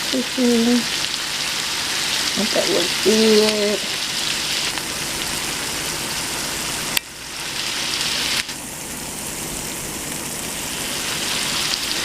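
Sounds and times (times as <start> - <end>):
sausages sizzling in a pan: 0.0 - 12.0.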